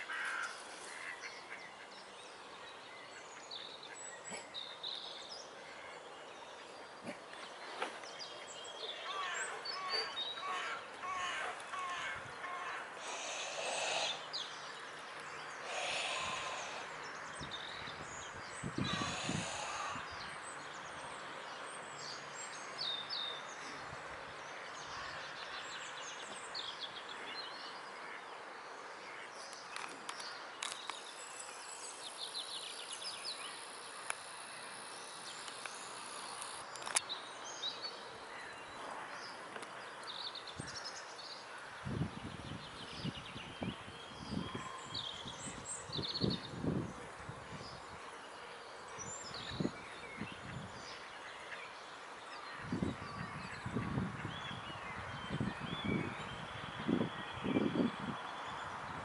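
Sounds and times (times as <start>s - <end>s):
small birds chirping: 0.0s - 59.0s
steady noisy hiss: 0.0s - 59.0s.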